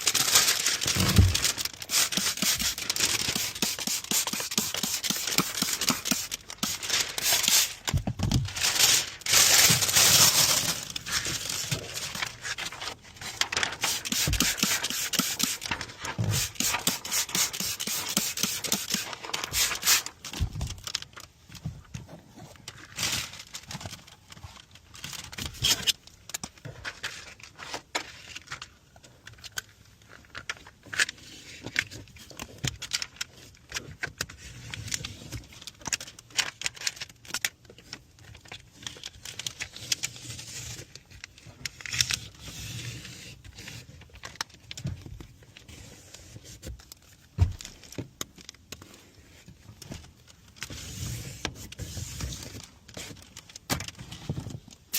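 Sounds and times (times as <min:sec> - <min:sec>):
film crinkling and rubbing on glass: 0:00.0 - 0:21.6, 0:22.5 - 0:54.9.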